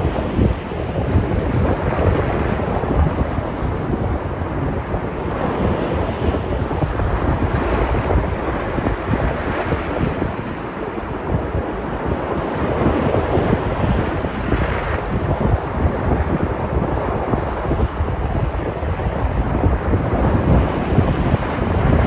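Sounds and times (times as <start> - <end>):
surf breaking on shore: 0.0 - 22.0
wind buffeting microphone: 0.0 - 22.0.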